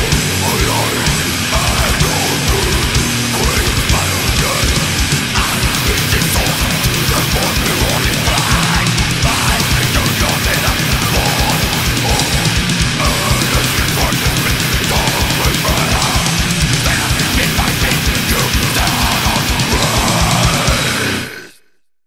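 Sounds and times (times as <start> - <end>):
distorted metal guitars: 0.0 - 21.6.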